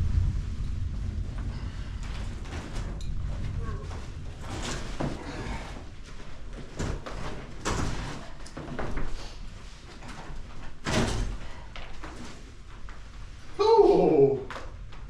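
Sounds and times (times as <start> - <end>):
floorboards scraping and cracking: 0.0 - 13.4.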